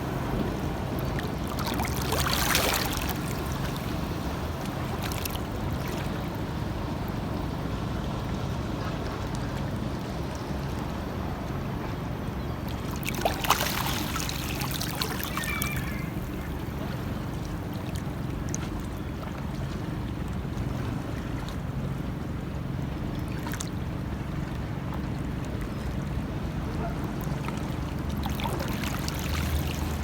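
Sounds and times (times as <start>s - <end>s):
water splashes: 0.0s - 11.6s, 12.6s - 30.0s
low rumble of wind and water: 0.0s - 30.0s
sea water lapping: 0.0s - 30.0s.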